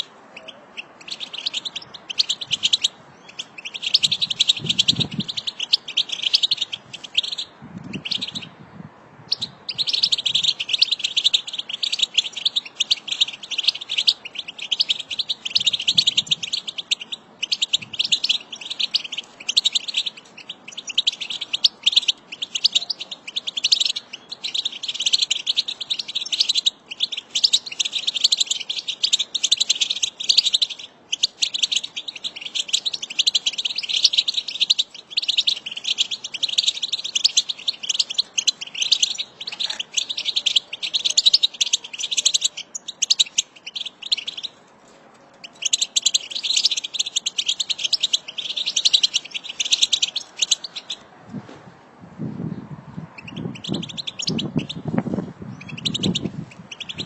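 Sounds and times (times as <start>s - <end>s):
finches chattering and twittering: 0.0s - 8.6s, 9.3s - 44.6s, 45.4s - 51.0s, 53.2s - 57.0s.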